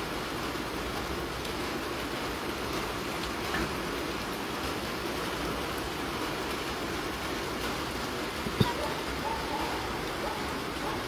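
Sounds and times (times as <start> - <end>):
rain on rooftops and street: 0.0 - 11.0.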